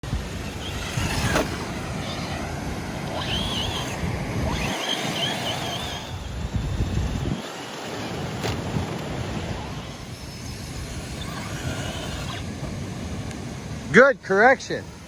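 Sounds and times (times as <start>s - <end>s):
wind buffeting microphone: 0.0s - 14.0s
high whine of electric motor: 0.0s - 15.0s.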